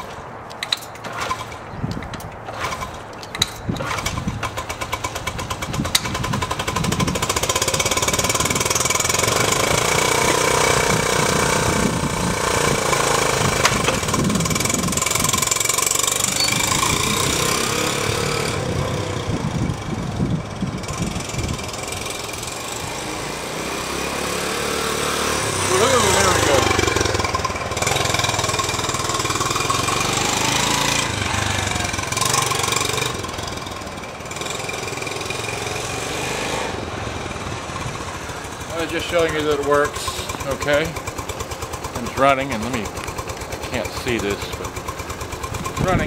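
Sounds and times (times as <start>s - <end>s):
motorcycle engine popping and running: 0.7s - 46.0s.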